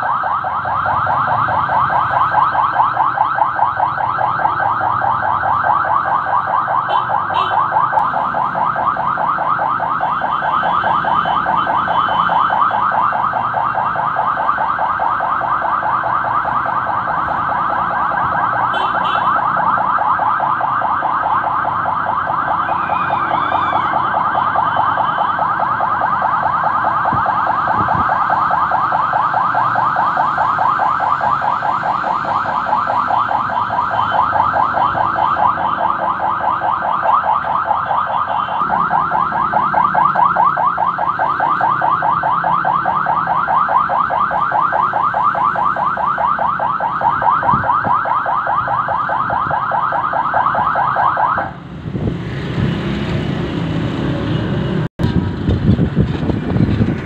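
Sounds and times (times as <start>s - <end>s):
electronic siren sweeping: 0.0s - 54.9s
vehicle engine and road noise: 0.0s - 57.0s.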